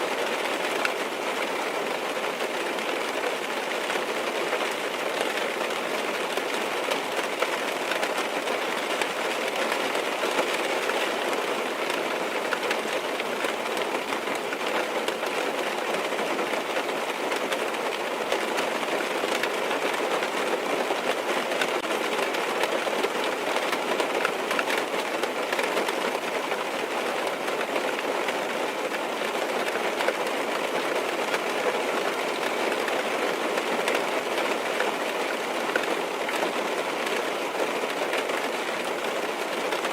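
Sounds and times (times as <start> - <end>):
rain on car windows and roof: 0.0 - 39.9.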